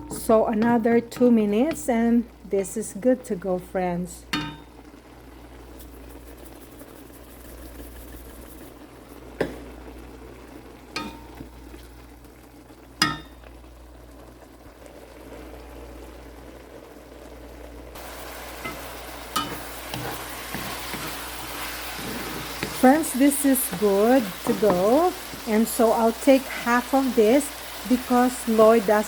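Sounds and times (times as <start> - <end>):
chicken sizzling in a pot: 0.0 - 29.0.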